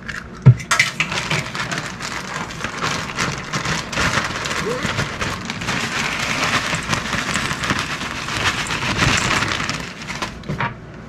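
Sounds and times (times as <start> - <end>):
plastic bag crinkling: 0.7 - 10.6.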